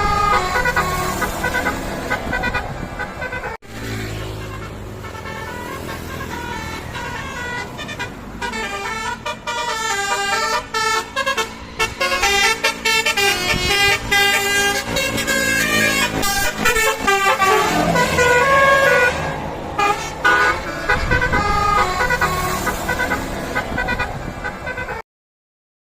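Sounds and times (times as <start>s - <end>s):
musical bus horn tooting: 0.0s - 25.0s.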